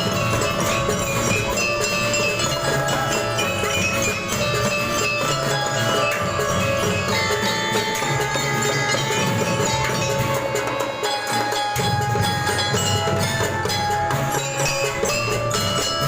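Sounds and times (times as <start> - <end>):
mallet bells melody: 0.0 - 16.0
steady drum beat: 0.0 - 16.0.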